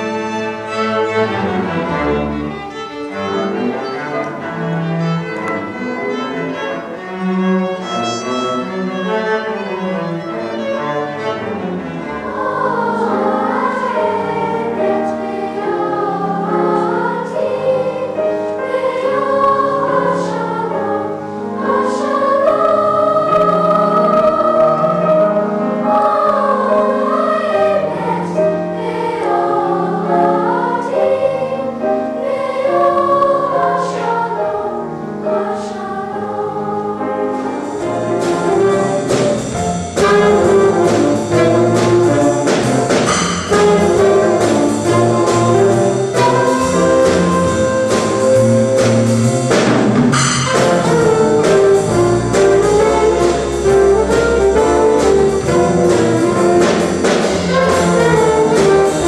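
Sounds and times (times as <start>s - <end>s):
jazz band playing: 0.0s - 59.0s
youth choir singing: 7.8s - 59.0s.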